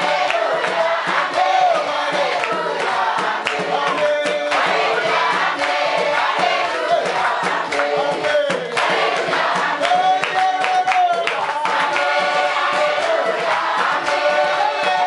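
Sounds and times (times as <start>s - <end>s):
group singing in chorus: 0.0s - 15.0s
hand clapping: 0.0s - 15.0s.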